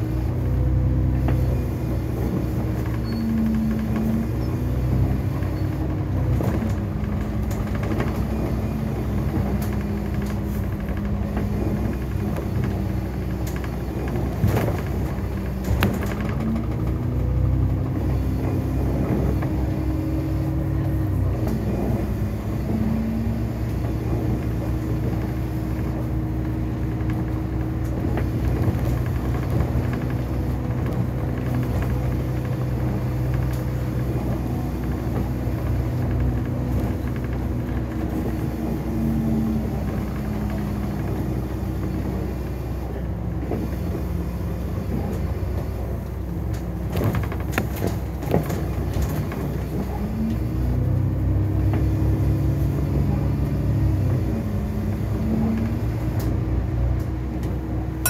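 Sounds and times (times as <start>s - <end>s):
bus engine and drivetrain hum: 0.0s - 58.0s
tyre and road noise: 0.0s - 58.0s.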